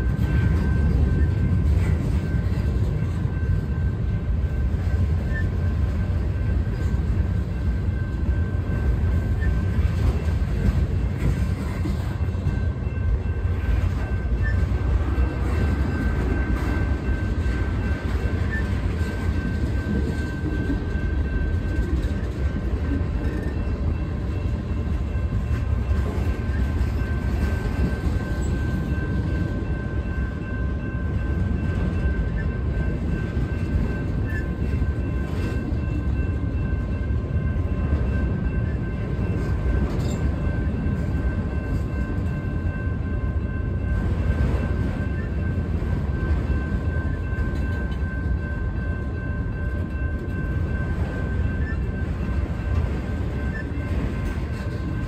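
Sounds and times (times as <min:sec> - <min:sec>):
freight cars rumbling on rails: 0:00.0 - 0:55.0.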